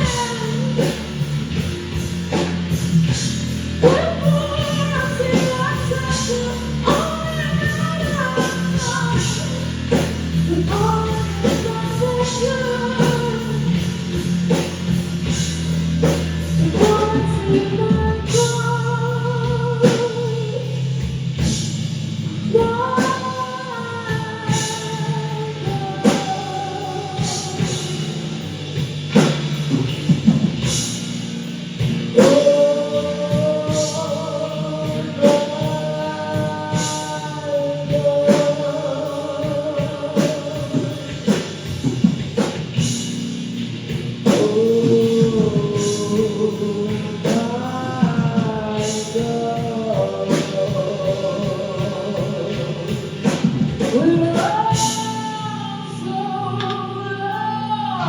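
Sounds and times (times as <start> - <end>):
person singing: 0.0 - 1.2, 3.8 - 14.8, 16.0 - 21.0, 22.5 - 28.4, 32.1 - 41.9, 44.2 - 58.0
rock guitar and drums: 0.0 - 58.0.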